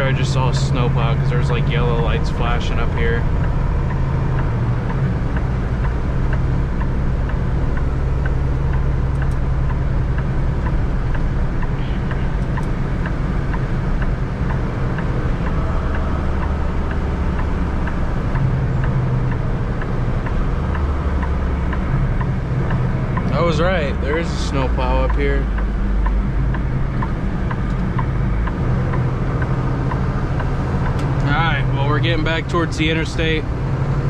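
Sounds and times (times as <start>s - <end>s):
faint regular ticking: 0.0s - 34.0s
road noise: 0.0s - 34.0s
truck engine drone: 0.0s - 34.0s.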